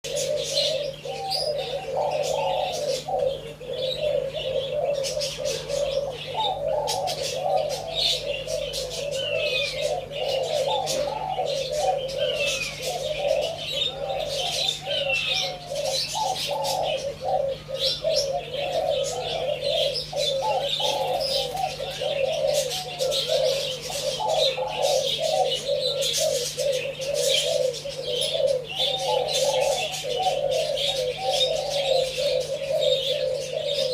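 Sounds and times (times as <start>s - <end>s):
dove cooing: 0.0s - 33.9s
small birds chirping: 0.0s - 33.9s.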